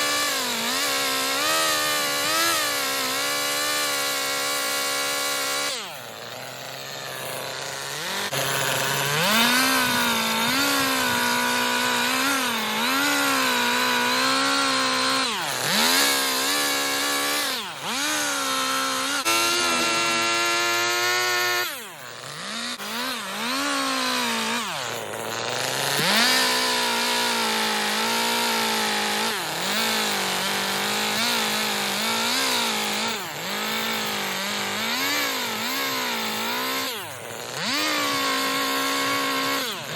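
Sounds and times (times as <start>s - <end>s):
chainsaw revving while cutting wood: 0.0s - 39.9s.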